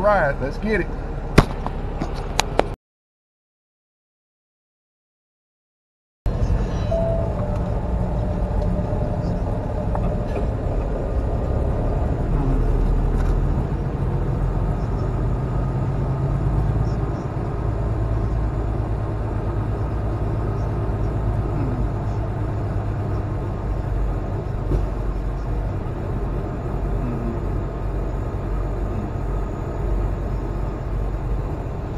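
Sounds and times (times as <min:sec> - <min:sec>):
diesel truck engine droning: 0:00.0 - 0:02.7, 0:06.3 - 0:31.9
road noise: 0:00.0 - 0:02.8, 0:06.3 - 0:31.9.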